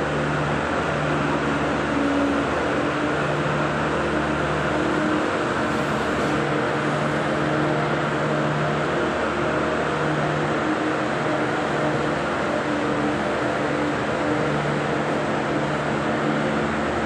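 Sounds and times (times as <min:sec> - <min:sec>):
ice resurfacing machine humming: 0:00.0 - 0:17.0.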